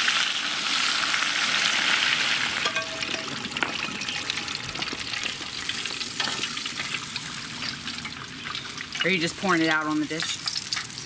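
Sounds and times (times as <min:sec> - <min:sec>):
hot oil sizzling: 0:00.0 - 0:11.0
oil draining into pot: 0:00.3 - 0:09.4.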